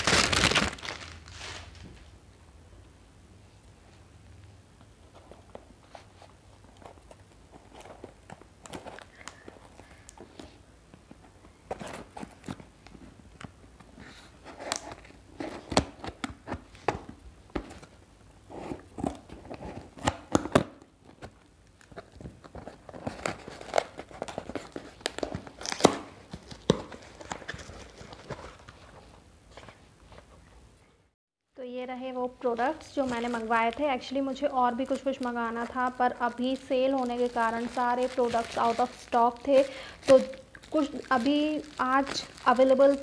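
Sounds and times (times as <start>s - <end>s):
packaging rustling and crinkling: 0.0s - 2.1s, 5.0s - 30.4s, 32.6s - 43.0s.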